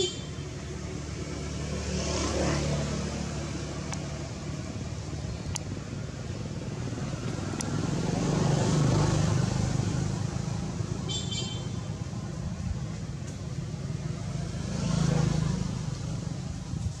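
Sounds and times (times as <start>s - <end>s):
motor vehicle passing: 0.0s - 11.1s, 11.9s - 17.0s
road traffic: 0.0s - 17.0s.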